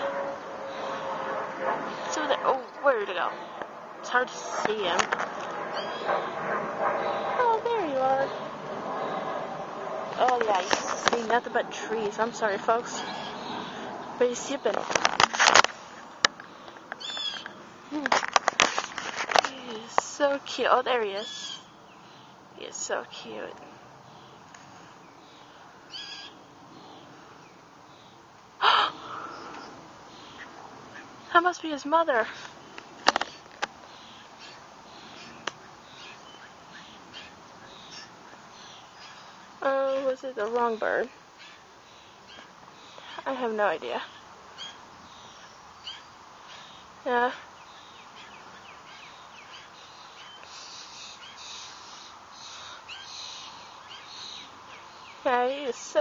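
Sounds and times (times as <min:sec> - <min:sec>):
birds chirping: 0:00.0 - 0:56.0
blue jay harsh calls: 0:01.8 - 0:09.2, 0:10.1 - 0:17.7, 0:19.8 - 0:23.4, 0:25.2 - 0:27.2, 0:27.9 - 0:56.0.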